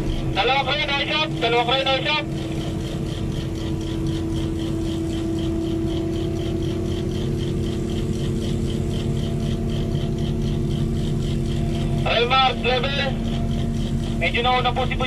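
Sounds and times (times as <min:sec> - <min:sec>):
crane diesel engine humming: 0:00.0 - 0:15.0
fast high-pitched pulsing: 0:00.0 - 0:15.0.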